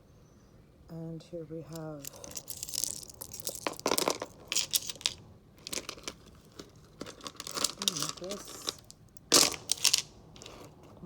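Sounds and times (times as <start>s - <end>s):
stone beads clicking and rattling: 1.7s - 10.8s.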